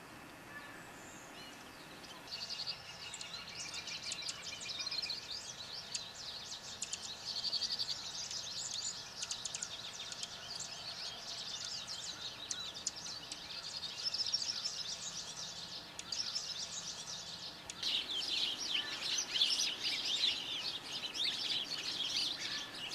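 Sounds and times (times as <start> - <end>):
birds chirping chorus: 0.0 - 22.9.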